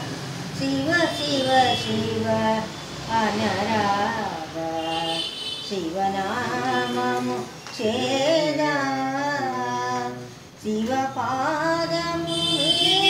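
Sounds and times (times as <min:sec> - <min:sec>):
elderly woman singing unaccompanied: 0:00.4 - 0:13.0.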